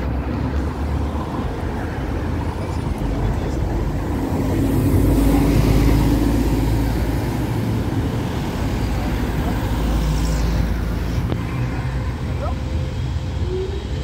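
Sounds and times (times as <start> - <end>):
bus driving past: 0.0 - 14.0
street traffic: 0.0 - 14.0.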